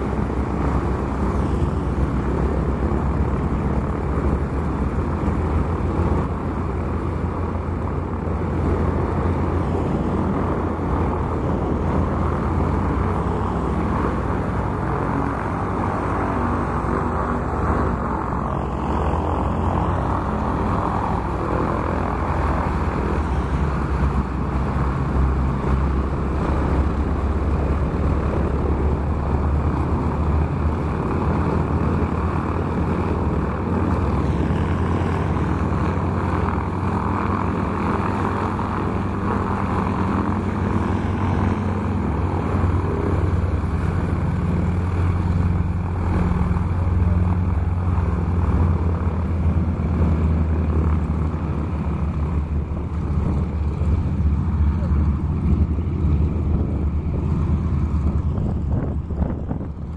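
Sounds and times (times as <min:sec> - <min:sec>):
radial aircraft engines taxiing: 0:00.0 - 0:59.9.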